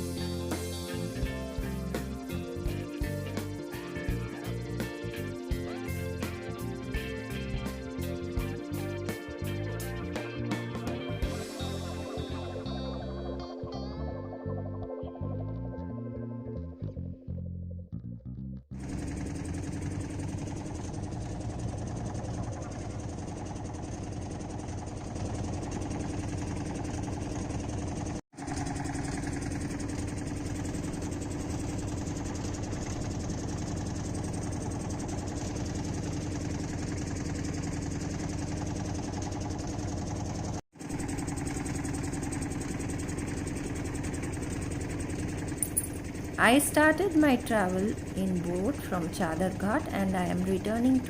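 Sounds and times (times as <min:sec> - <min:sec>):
boat engine droning: 0:00.0 - 0:17.0, 0:18.8 - 0:51.0.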